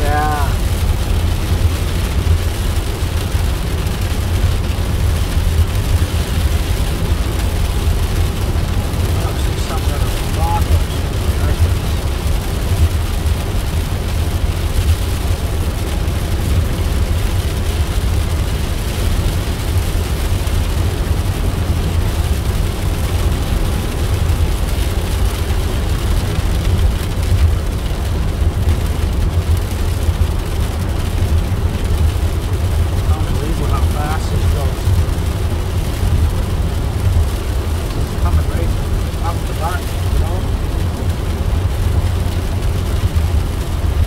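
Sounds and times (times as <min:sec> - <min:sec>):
car interior road and engine rumble: 0:00.0 - 0:44.0.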